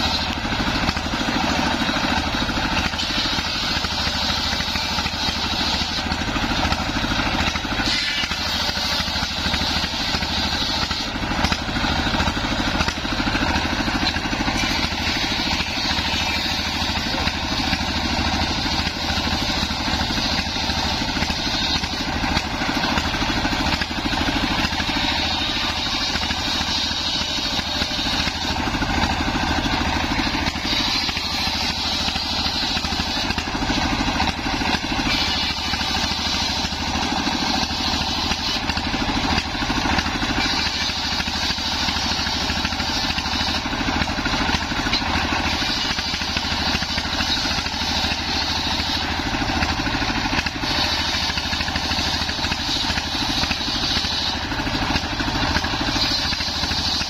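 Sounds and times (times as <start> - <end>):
circular saw cutting log: 0.0 - 57.0
diesel engine running: 0.0 - 57.0.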